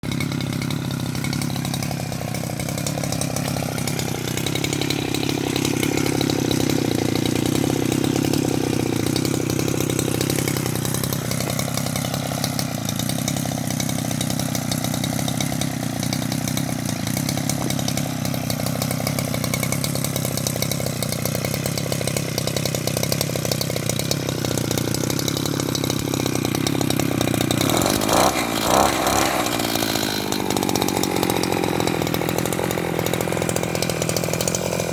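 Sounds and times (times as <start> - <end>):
two-stroke engine buzzing: 0.0 - 34.9.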